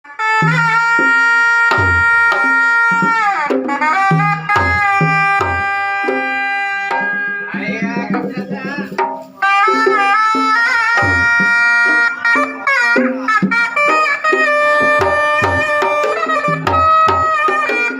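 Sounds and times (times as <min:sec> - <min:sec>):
reed shawm melody: 0:00.1 - 0:17.9
hand drum strokes: 0:00.4 - 0:17.9.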